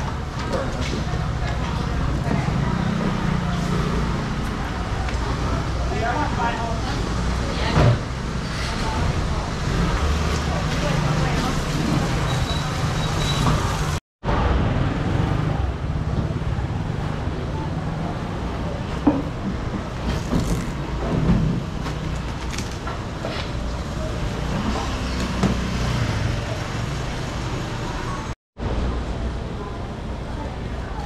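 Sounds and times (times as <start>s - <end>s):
market bustle: 0.0s - 31.0s
street traffic rumble: 0.0s - 31.0s.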